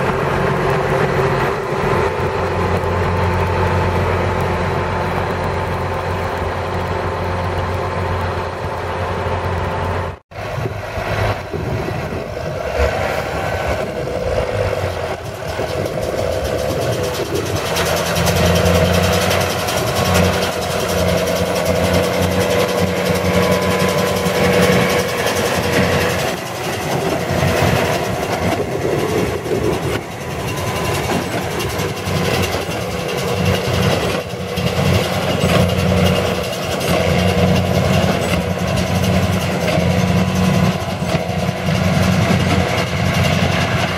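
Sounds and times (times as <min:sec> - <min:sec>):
farm machinery engine running: 0:00.0 - 0:43.9.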